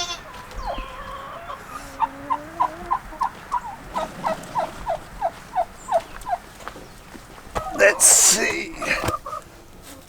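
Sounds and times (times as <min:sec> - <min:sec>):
turkey calling: 0:00.0 - 0:10.0.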